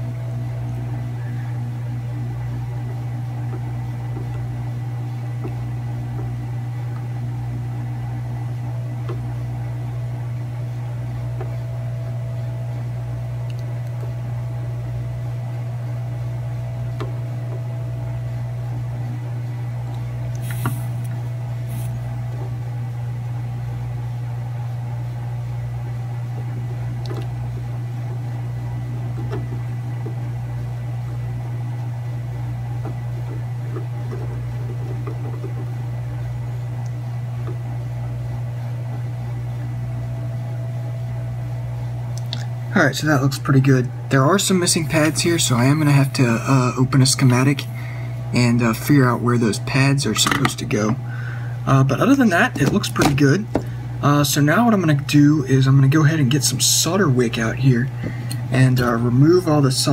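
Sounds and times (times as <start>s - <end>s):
low equipment hum: 0.0s - 59.9s.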